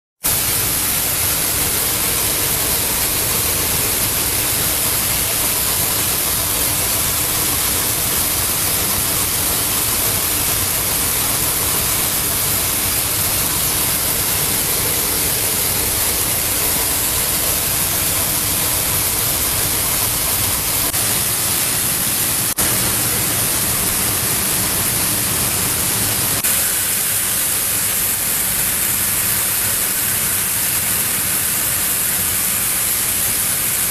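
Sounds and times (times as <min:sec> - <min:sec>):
machine hissing: 0:00.2 - 0:33.9.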